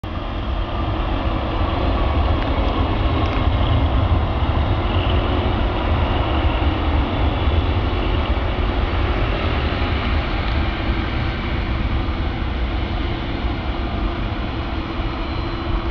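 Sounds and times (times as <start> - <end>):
jet engines at takeoff thrust: 0.0 - 15.9.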